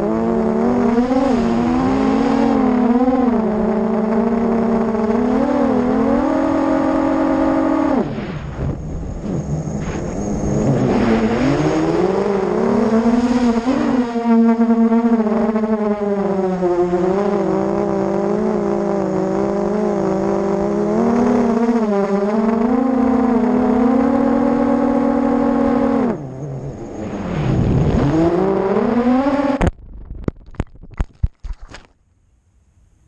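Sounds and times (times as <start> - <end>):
drone motors whining: 0.0 - 29.7.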